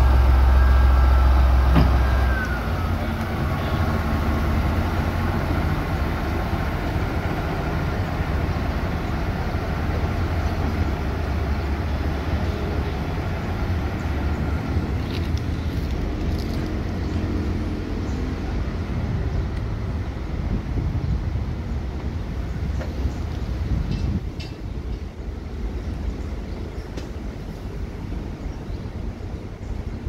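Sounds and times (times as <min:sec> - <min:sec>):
locomotive diesel engine rumbling: 0:00.0 - 0:30.0.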